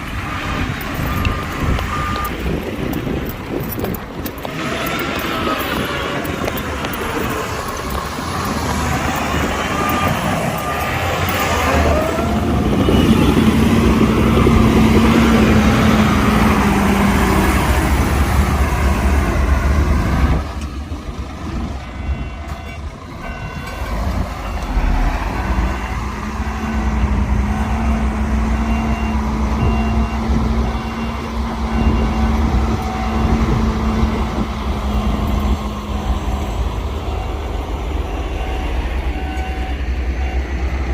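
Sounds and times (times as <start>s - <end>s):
heavy diesel machines working: 0.0s - 40.9s
reversing alarm beeping: 0.1s - 19.8s, 21.5s - 40.9s.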